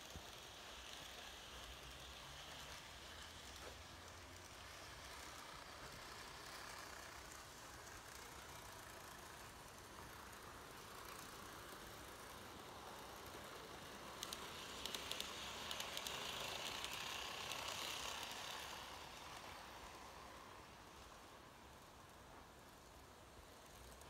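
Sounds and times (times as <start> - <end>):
model train motors whirring: 0.0 - 24.0
wheels rolling on rails: 0.0 - 24.0.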